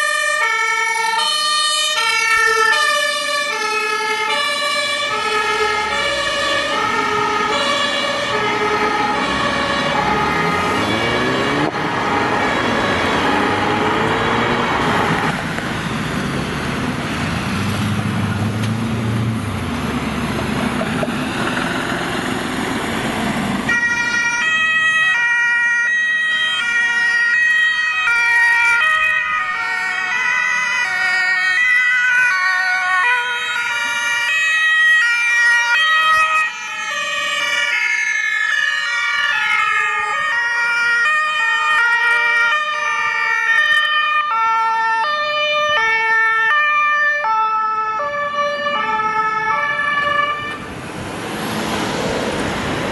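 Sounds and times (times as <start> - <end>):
road traffic: 0.0 - 52.9
two-tone ambulance sirens: 0.0 - 52.9.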